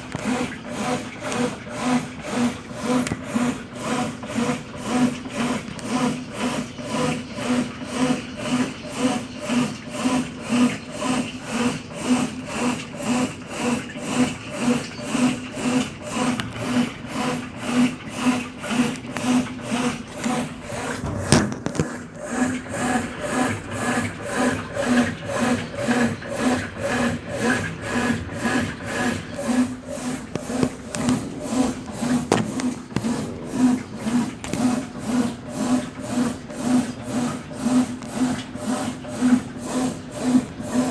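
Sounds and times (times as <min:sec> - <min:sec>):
washing machine agitating: 0:00.0 - 0:40.9.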